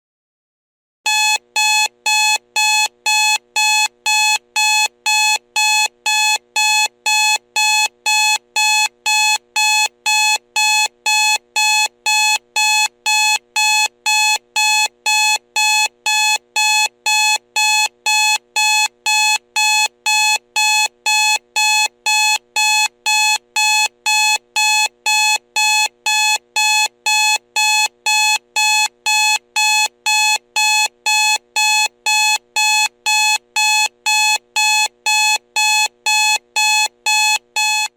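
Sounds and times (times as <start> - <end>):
digital alarm clock beeping: 1.1 - 37.9.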